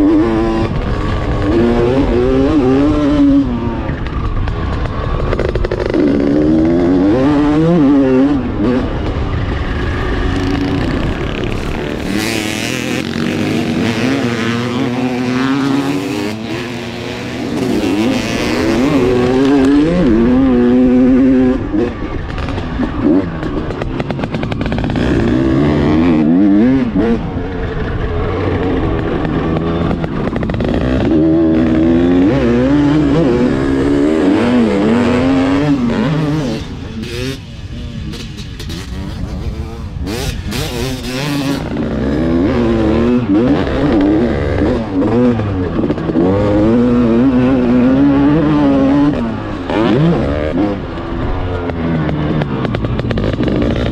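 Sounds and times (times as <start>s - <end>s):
two-stroke engine revving: 0.0s - 53.9s.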